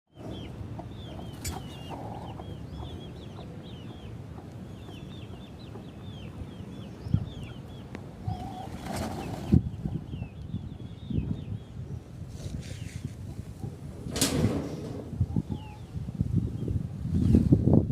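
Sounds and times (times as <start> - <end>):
small birds chirping: 0.1 - 13.8, 15.2 - 17.5.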